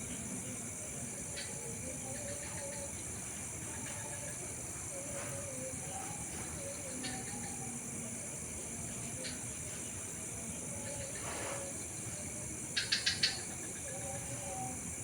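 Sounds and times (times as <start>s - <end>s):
night insects droning: 0.0s - 15.0s.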